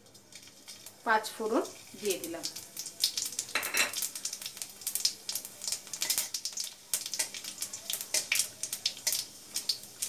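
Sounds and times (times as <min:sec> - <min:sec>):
seeds and chillies sizzling in oil: 0:00.0 - 0:10.0
small crackles and pops: 0:00.0 - 0:10.0.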